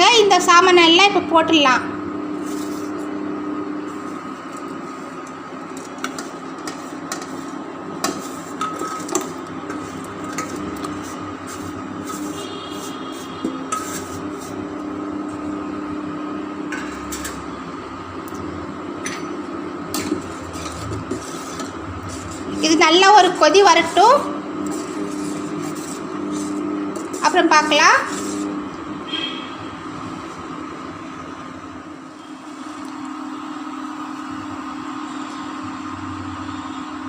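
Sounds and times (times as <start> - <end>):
steady background hum: 0.0 - 33.7.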